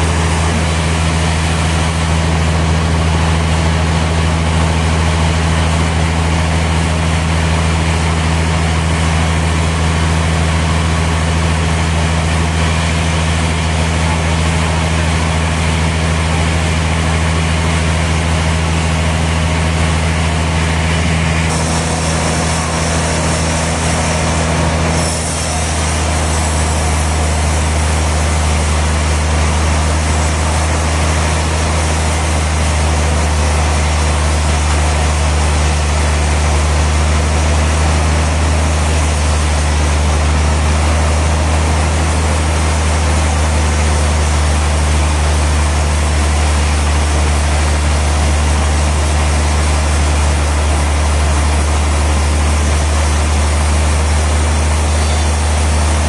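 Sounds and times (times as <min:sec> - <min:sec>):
broad rushing noise: 0:00.0 - 0:06.9, 0:07.6 - 0:56.0
sawmill machinery humming: 0:00.0 - 0:56.0.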